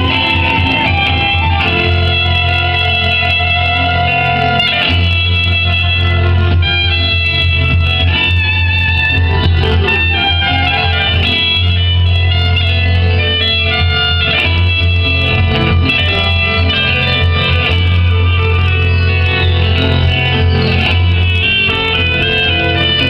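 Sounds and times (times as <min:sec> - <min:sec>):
guitar: 0:00.0 - 0:23.0
violin-like melody: 0:00.0 - 0:23.0.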